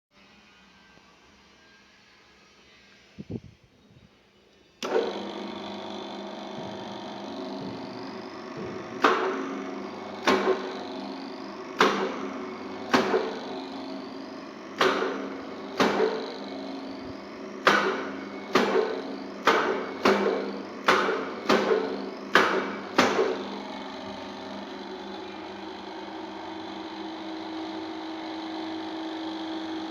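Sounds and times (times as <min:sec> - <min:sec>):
drill press humming: 0:04.8 - 0:29.9.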